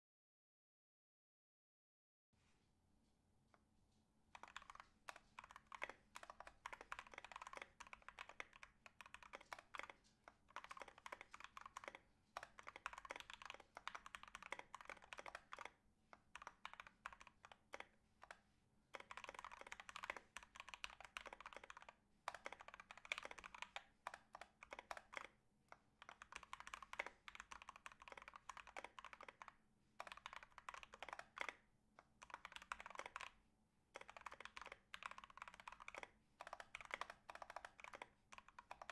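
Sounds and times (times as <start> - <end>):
mechanical keyboard typing: 4.3 - 25.4, 26.0 - 33.4, 34.0 - 38.9.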